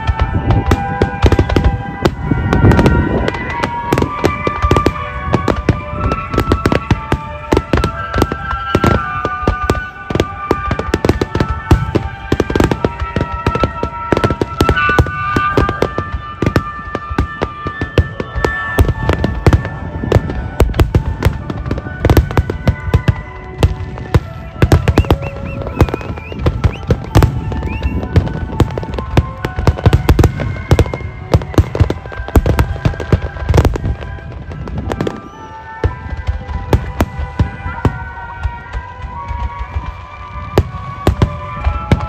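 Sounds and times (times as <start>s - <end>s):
firework shells exploding: 0.0s - 42.0s
music playing: 0.0s - 42.0s.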